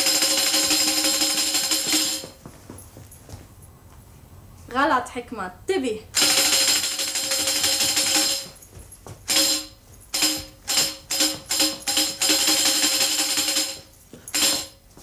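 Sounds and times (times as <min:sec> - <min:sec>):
tambourine jingling: 0:00.0 - 0:03.7, 0:06.2 - 0:15.0.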